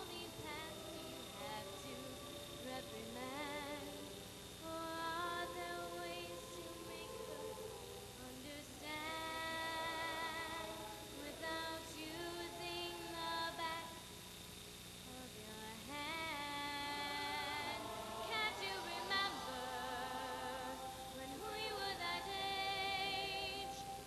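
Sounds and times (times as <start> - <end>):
choir singing: 0.0 - 14.0, 15.2 - 24.0
woman singing into a microphone: 0.0 - 14.0, 15.1 - 24.0.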